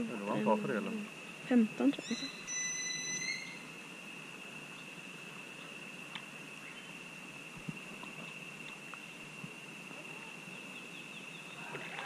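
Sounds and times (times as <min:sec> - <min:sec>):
faint high-pitched whine: 0:00.0 - 0:12.0
soft hiss: 0:00.0 - 0:12.0.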